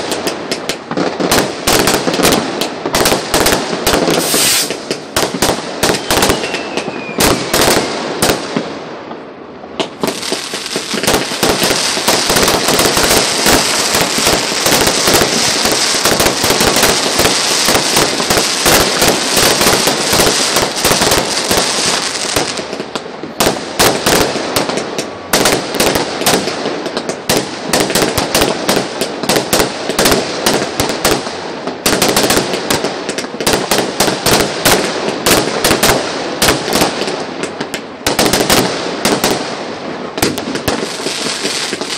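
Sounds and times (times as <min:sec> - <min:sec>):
crackling fizz of fireworks: 0:00.0 - 0:41.9
fireworks bangs and crackling: 0:00.0 - 0:41.9.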